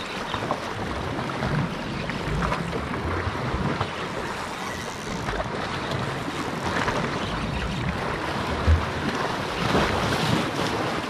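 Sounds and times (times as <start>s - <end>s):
sea surf washing against rocks: 0.0s - 11.0s.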